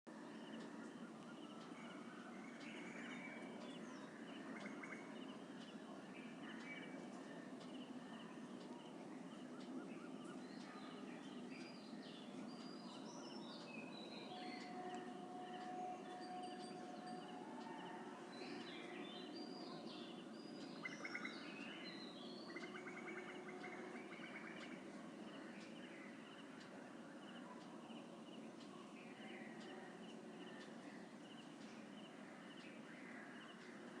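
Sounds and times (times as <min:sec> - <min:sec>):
wild birds chirping: 0:00.1 - 0:34.0.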